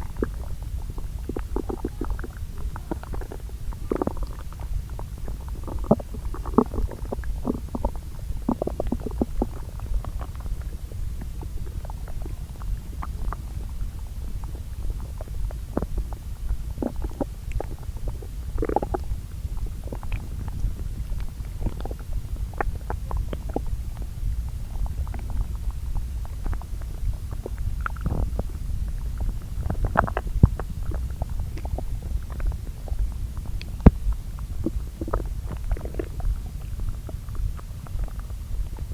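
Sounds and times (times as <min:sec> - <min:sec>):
low bowel rumble: 0:00.0 - 0:38.9.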